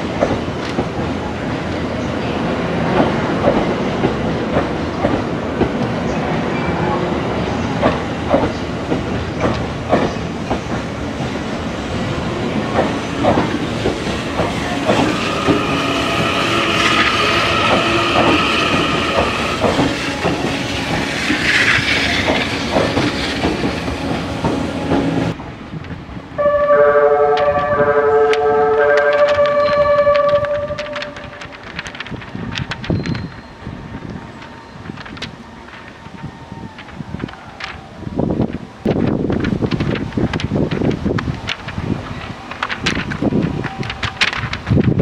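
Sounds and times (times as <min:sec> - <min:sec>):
train wheels clicking over rail joints: 0:00.0 - 0:02.1, 0:02.8 - 0:06.1, 0:07.6 - 0:26.2, 0:27.3 - 0:45.0.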